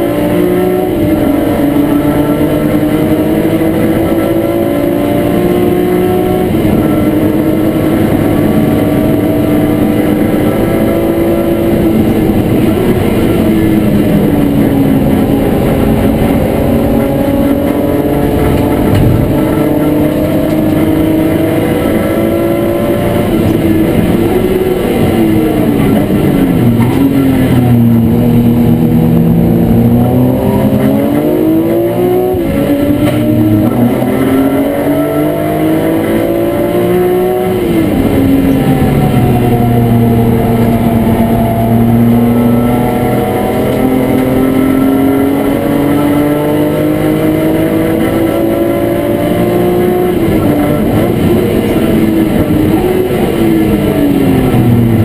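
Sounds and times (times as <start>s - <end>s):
race car engine under load: 0.0s - 55.0s.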